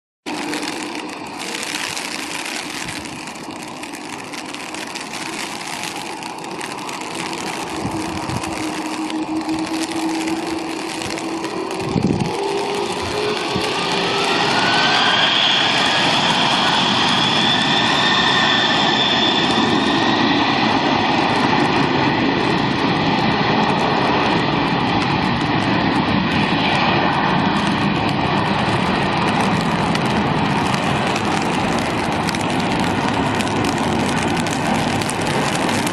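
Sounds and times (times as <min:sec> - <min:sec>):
jet engines whining: 0:00.3 - 0:35.9.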